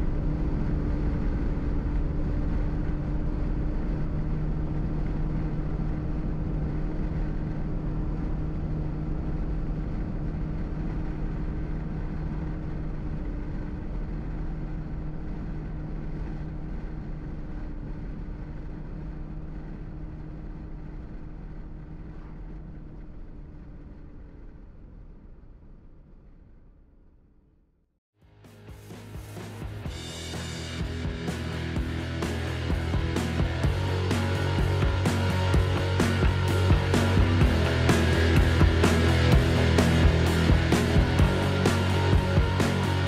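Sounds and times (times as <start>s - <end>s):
car engine and road noise: 0.0s - 26.6s, 28.2s - 43.0s.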